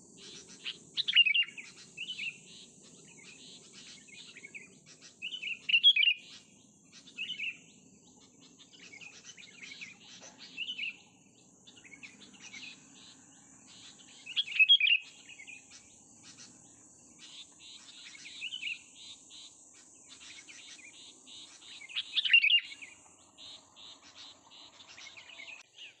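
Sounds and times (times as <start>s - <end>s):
young songbird chirping: 0.0s - 26.0s.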